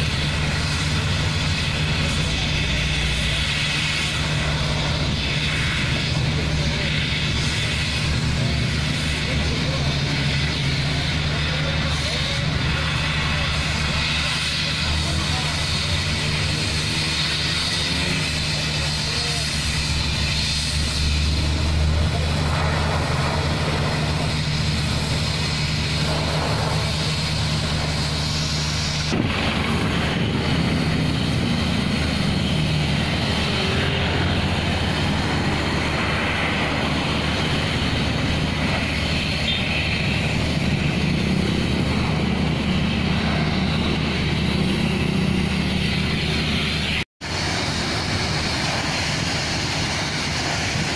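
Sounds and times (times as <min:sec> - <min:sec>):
broad rushing noise: 0:00.0 - 0:50.9
engines running: 0:00.0 - 0:50.9
small portable engine running: 0:00.0 - 0:50.9.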